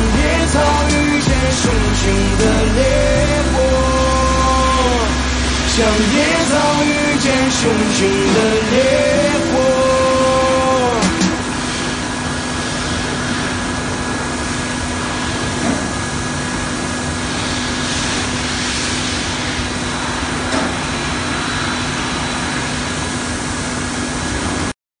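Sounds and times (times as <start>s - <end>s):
machine drone with hiss: 0.0s - 24.7s.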